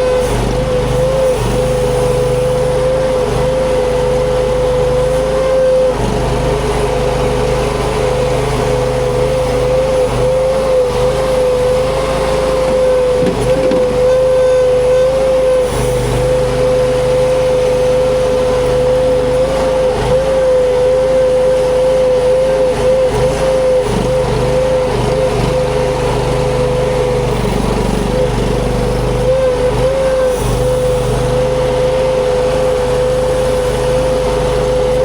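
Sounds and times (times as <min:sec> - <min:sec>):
skid steer engine whining: 0:00.0 - 0:35.0.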